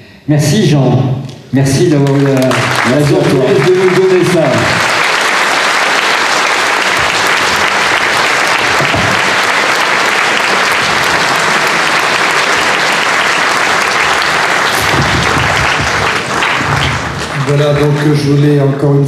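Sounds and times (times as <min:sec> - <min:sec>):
audience applauding: 0:01.8 - 0:19.0.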